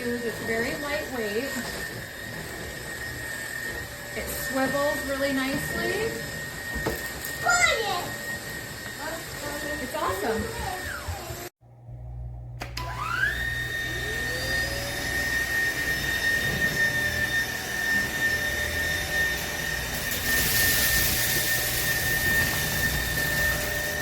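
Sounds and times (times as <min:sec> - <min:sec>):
stick vacuum motor whine: 0:00.0 - 0:24.0.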